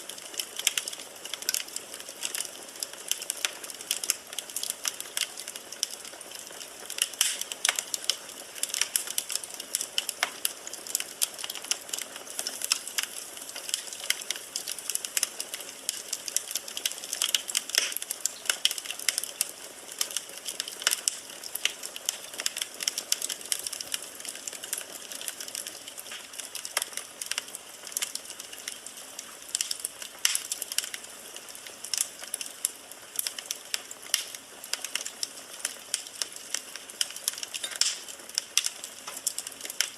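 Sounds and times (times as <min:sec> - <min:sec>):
firewood crackling and popping: 0:00.0 - 0:39.9
soft fire hiss: 0:00.0 - 0:39.9.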